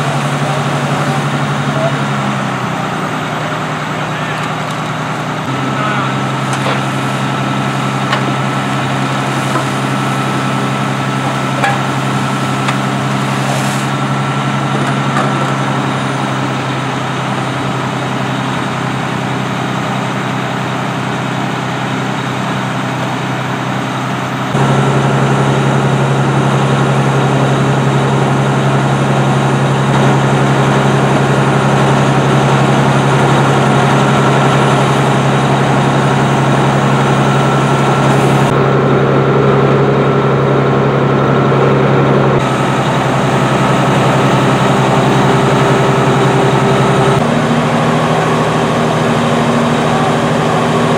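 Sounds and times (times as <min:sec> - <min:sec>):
fire truck engine droning: 0:00.0 - 0:50.9.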